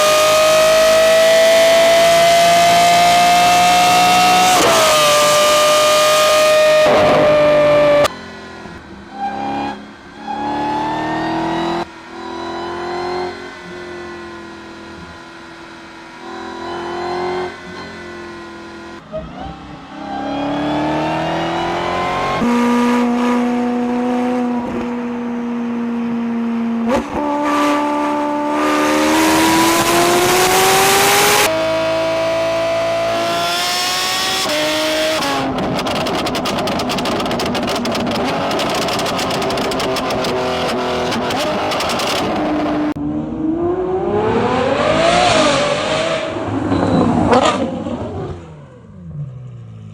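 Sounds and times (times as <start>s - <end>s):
car engines accelerating hard: 0.0s - 49.9s.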